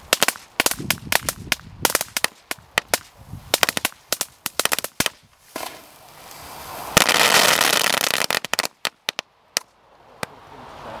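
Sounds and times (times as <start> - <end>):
firecracker fuse hiss: 0.0 - 8.9
dense firecracker crackling: 0.0 - 10.4.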